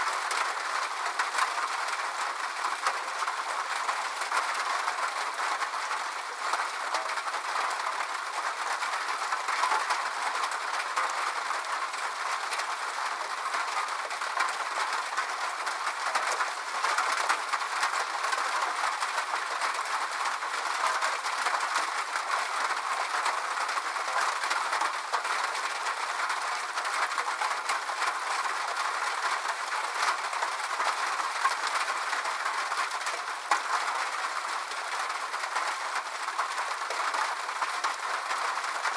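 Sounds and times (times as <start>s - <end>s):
rain on a roof: 0.0s - 38.9s.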